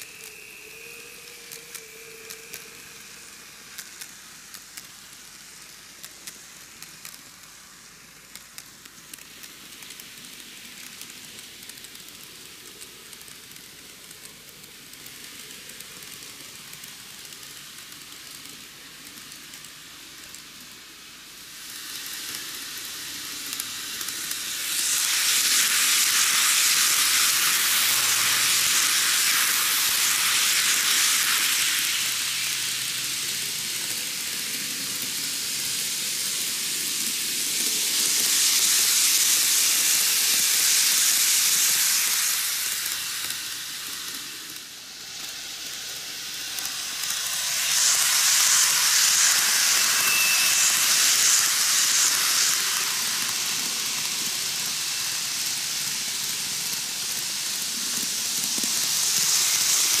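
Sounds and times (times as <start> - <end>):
model trains wheels hissing: 0.0 - 60.0.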